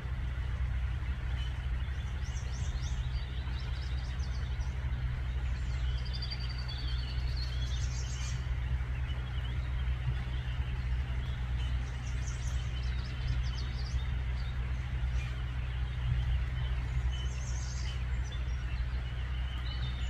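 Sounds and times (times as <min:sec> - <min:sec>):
songbirds chirping: 0:00.0 - 0:20.0
steady low rumble: 0:00.0 - 0:20.0.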